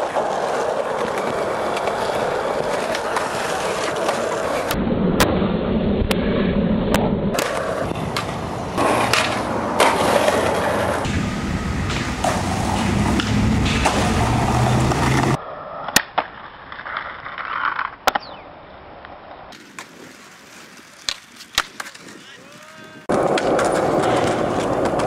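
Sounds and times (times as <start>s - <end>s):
skateboard clacks: 0.0s - 4.8s, 6.9s - 18.3s, 21.0s - 25.0s
skateboard wheels rolling on concrete: 0.0s - 25.0s.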